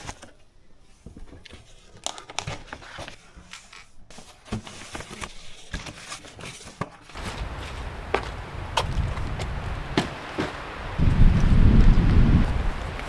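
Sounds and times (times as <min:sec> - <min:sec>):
rustling and crinkling: 0:00.9 - 0:13.0.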